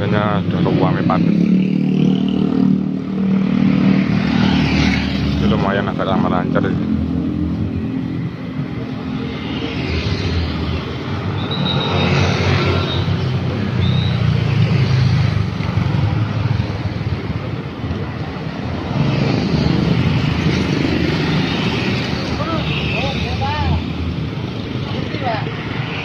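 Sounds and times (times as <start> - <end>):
traffic driving past: 0.0 - 26.0.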